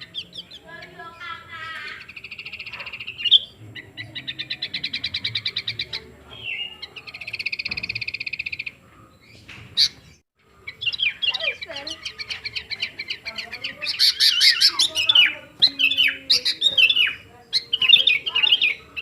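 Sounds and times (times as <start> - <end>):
songbird chirps: 0.0 - 19.0
songbird trilling: 0.0 - 19.0.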